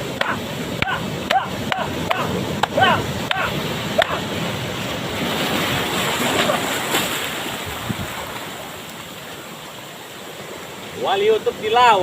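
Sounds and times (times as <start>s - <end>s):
ocean surf washing up beach: 0.0s - 12.0s.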